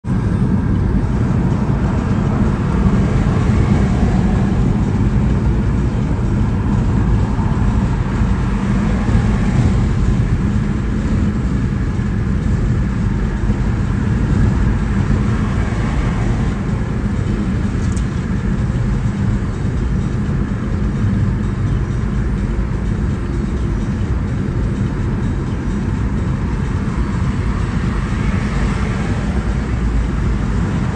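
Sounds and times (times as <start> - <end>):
car road and engine noise: 0.0 - 30.9.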